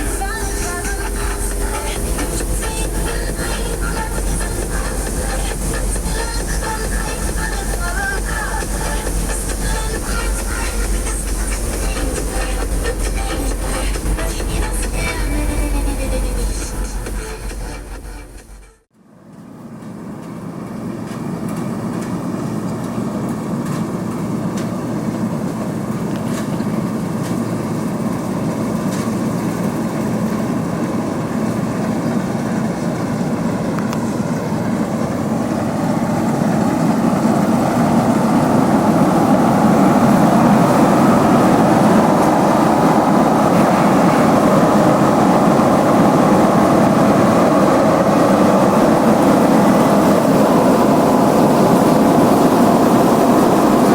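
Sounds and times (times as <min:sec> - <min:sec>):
diesel engine running: 0:00.0 - 0:18.9, 0:23.9 - 0:53.9.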